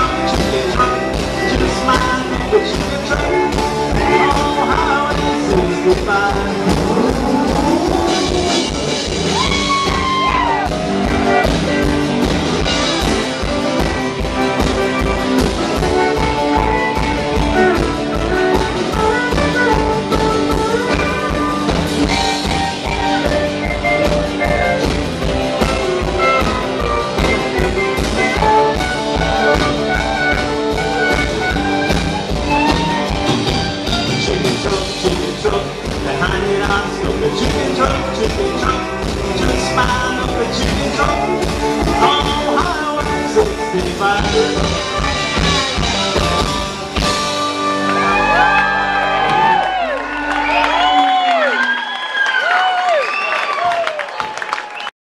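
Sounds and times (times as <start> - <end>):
live rockabilly band playing: 0.0 - 54.9.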